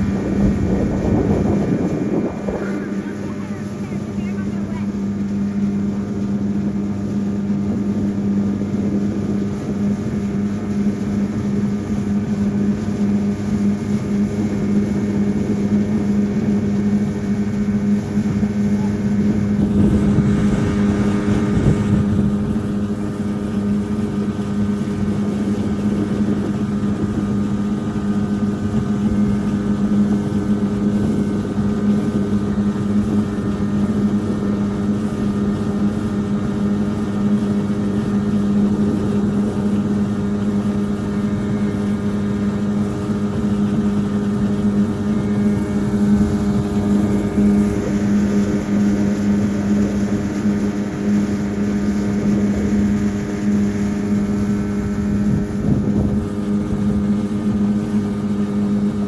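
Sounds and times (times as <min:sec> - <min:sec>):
motorboat engine humming: 0:00.0 - 0:59.0
rushing wind and water: 0:00.0 - 0:59.0.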